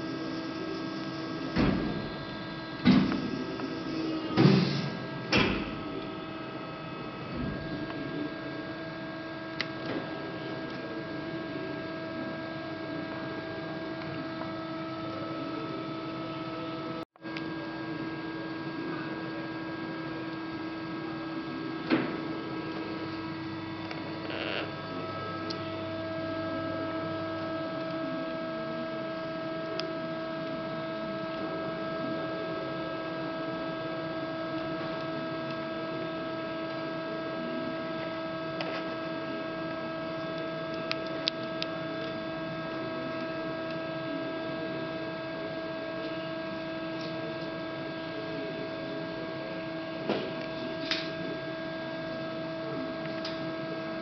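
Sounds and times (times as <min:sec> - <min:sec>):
hydraulic pump motor humming: 0:00.0 - 0:54.0.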